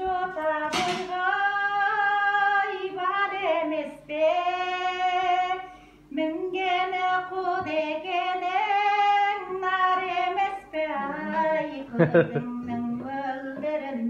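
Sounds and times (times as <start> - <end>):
elderly woman singing unaccompanied: 0.0 - 14.0.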